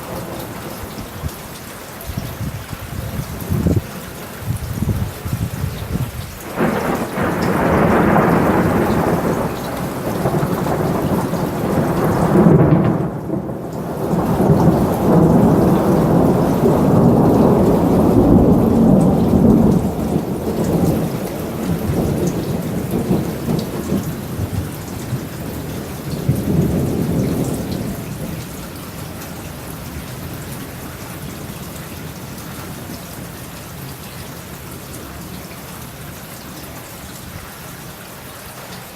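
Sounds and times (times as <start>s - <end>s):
rain hissing: 0.0s - 38.9s
rolling thunder: 2.1s - 33.4s.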